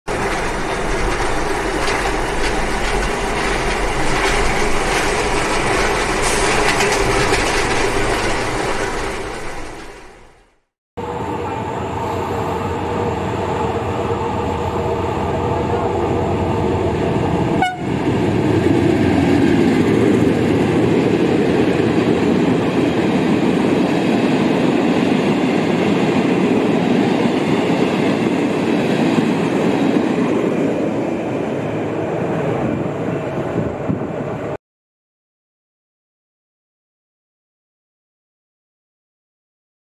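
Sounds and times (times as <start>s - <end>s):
train wheels rumbling on rails: 0.1s - 34.6s.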